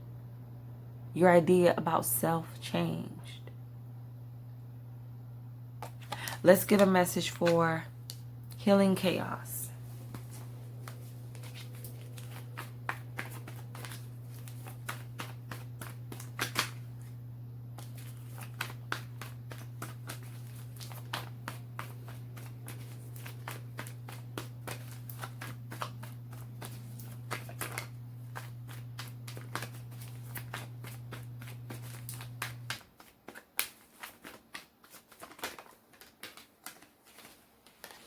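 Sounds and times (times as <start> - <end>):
cards being shuffled: 5.8 - 8.3, 9.9 - 38.0.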